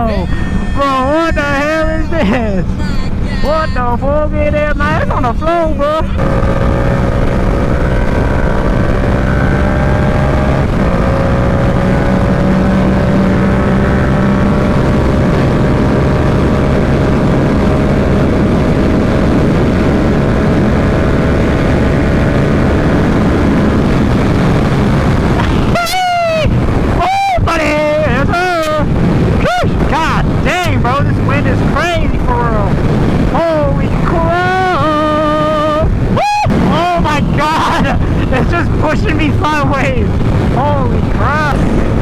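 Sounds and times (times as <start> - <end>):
heavy wind noise: 0.0 - 42.0
motorcycle engine at speed: 6.2 - 42.0.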